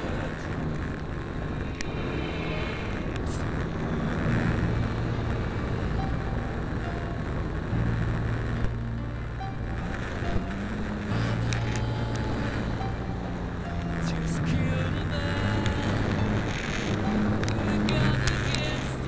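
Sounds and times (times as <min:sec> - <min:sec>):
motor and propeller hum: 0:00.0 - 0:19.0
wind rushing over microphone: 0:00.0 - 0:19.0.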